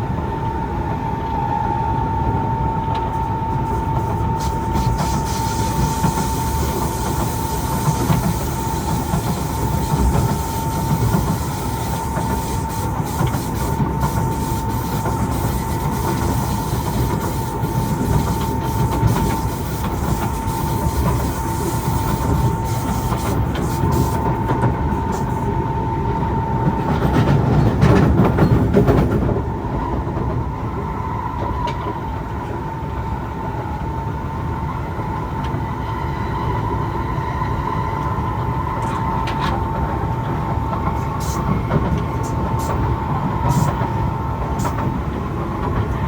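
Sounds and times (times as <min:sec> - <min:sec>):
wheel and rail rumble: 0:02.4 - 0:35.8, 0:37.6 - 0:46.0.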